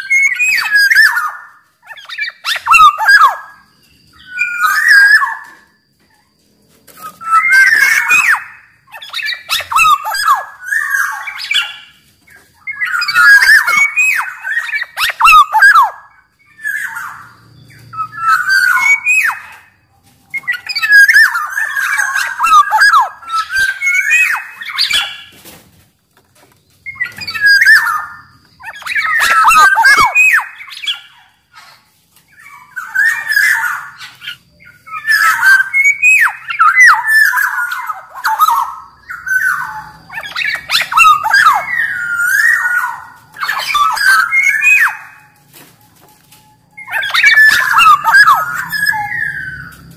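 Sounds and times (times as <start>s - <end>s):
bird whistling calls: 0.0s - 5.8s, 6.9s - 25.4s, 26.8s - 49.9s.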